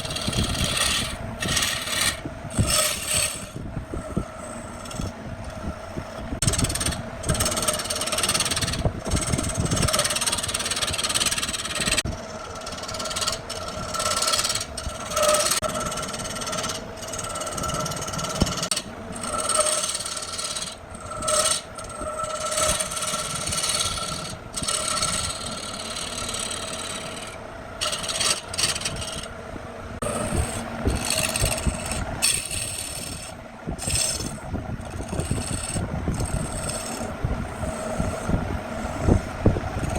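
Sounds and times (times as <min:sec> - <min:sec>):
tool scraping spinning wood: 0:00.0 - 0:39.9
wood lathe whining: 0:00.0 - 0:39.9.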